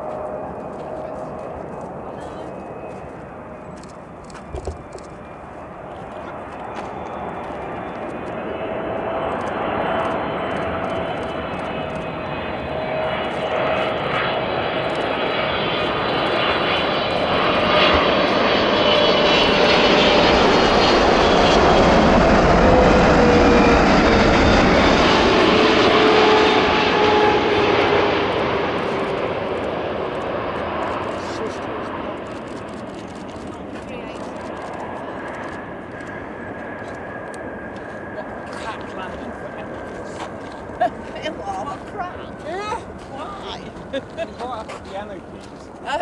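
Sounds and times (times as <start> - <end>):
jet airliner passing: 0.0 - 46.0.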